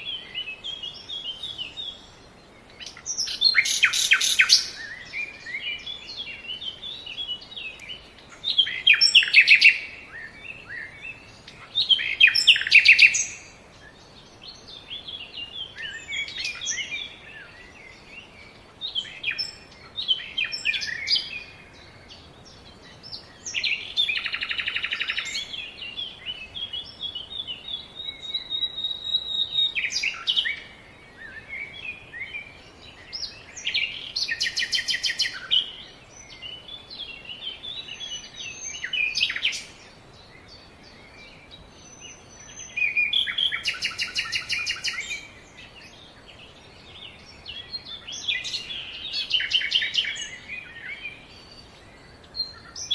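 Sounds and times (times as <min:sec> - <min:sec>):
songbirds chirping and whistling: 0:00.0 - 0:52.9.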